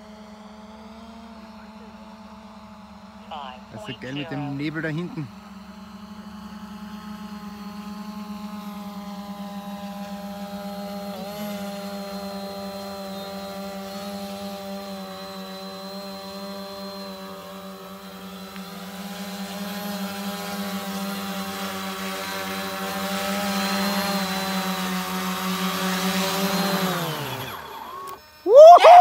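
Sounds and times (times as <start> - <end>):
electric motors and propellers humming: 0.0 - 29.0.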